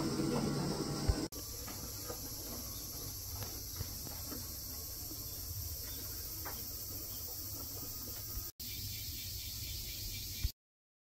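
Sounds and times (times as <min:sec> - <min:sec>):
high-pitched insect chorus: 0:01.4 - 0:10.5.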